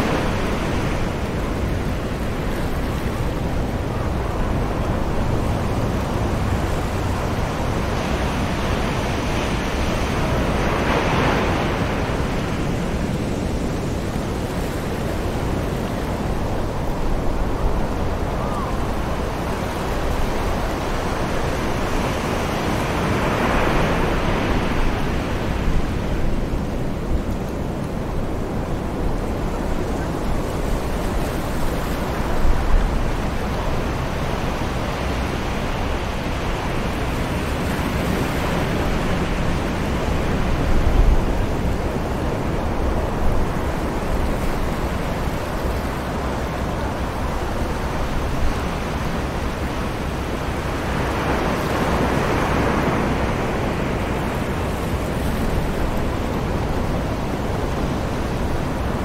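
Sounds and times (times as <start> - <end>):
distant surf washing: 0.0 - 59.0
low wind gusts thumping: 0.0 - 59.0
wind: 0.0 - 59.0.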